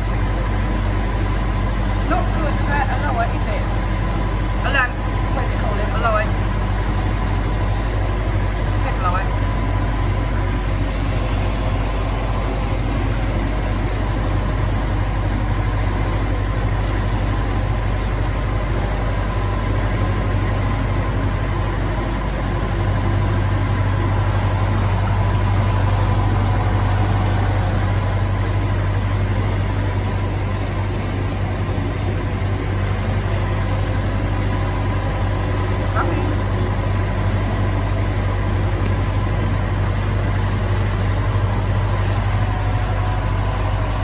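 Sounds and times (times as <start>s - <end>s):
boat engine humming in tunnel: 0.0s - 44.0s.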